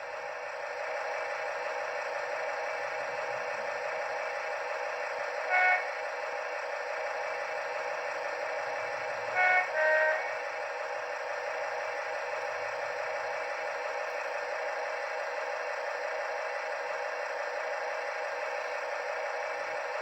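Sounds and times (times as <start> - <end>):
model locomotive diesel engine sound: 0.0 - 20.0.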